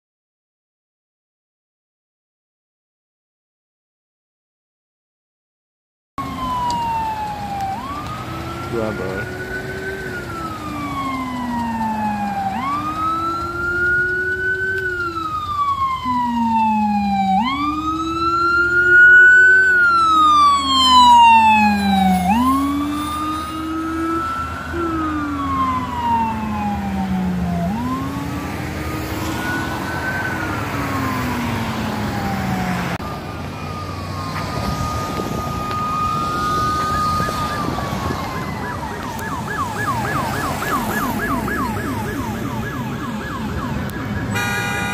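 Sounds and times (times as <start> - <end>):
siren yelping: 6.2 - 44.9
sirens wailing: 6.2 - 44.9
traffic noise: 6.2 - 44.9.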